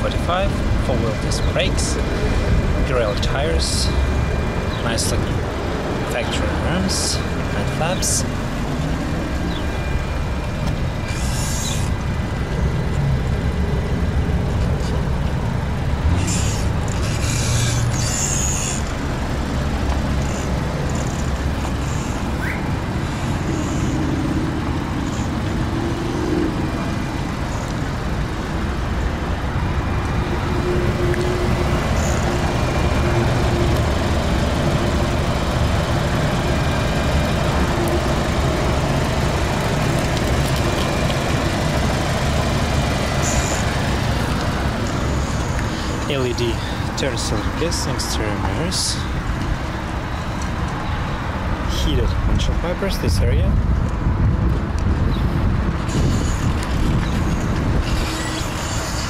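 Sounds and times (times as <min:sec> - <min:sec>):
motor vehicle rumble: 0:00.0 - 0:59.0.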